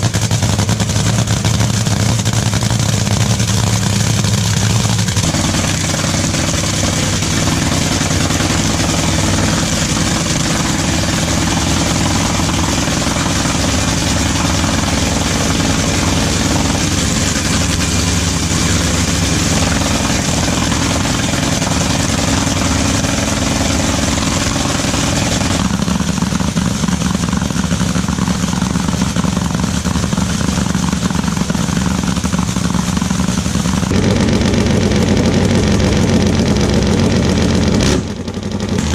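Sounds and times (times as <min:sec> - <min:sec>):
racing car engine idling: 0:00.0 - 0:38.9.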